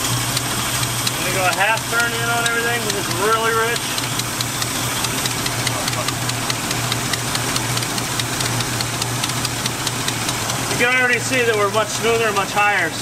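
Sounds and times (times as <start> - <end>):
faint rapid ticking: 0.0 - 13.0
truck engine idling: 0.0 - 13.0.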